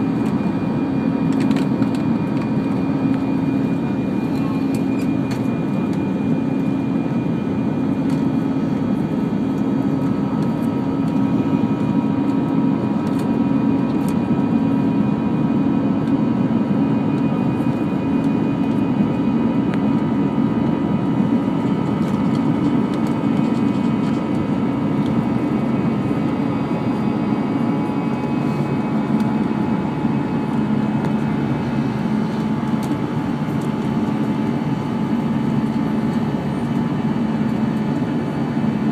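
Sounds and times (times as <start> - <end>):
airflow rush in aircraft cabin: 0.0 - 38.9
engine drone: 0.0 - 38.9.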